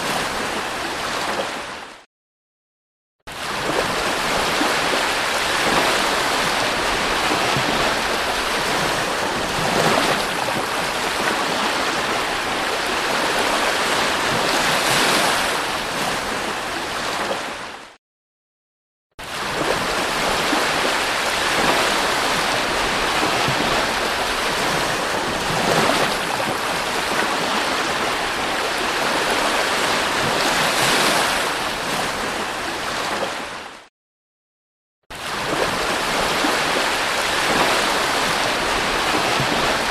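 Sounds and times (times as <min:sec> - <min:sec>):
sea waves washing onto shore: 0:00.0 - 0:01.9, 0:03.3 - 0:17.8, 0:19.2 - 0:33.8, 0:35.1 - 0:39.9.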